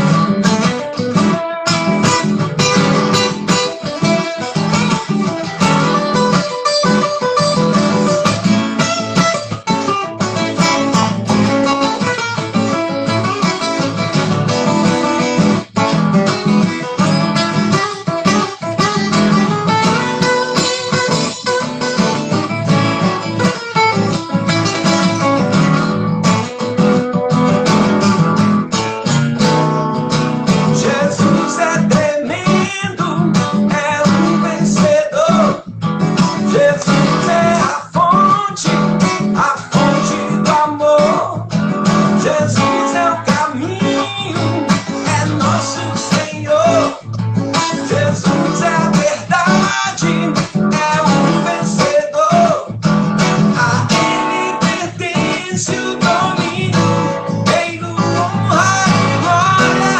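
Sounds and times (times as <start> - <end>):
guitar playing: 0.0 - 59.9.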